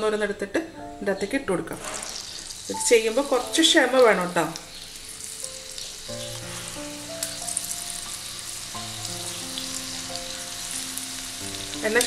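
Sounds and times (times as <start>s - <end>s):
soft background music: 0.0s - 12.0s
oil sizzling while deep-frying: 1.8s - 12.0s.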